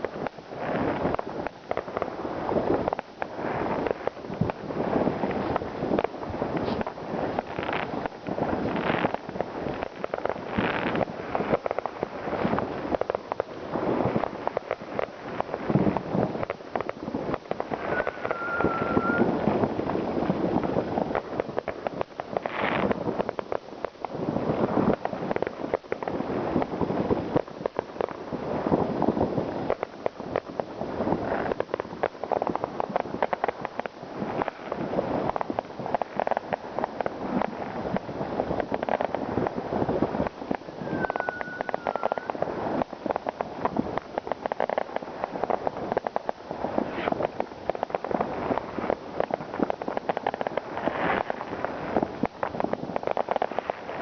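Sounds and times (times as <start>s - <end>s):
firecracker bangs and crackling: 0.0s - 54.0s.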